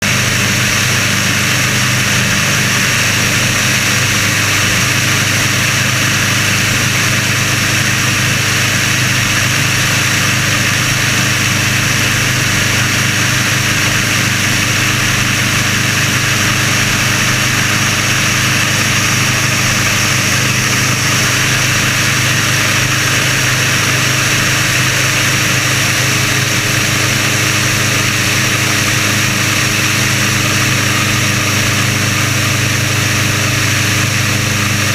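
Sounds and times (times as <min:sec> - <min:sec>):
light aircraft engine running: 0:00.0 - 0:34.9
propeller and rushing air: 0:00.0 - 0:34.9.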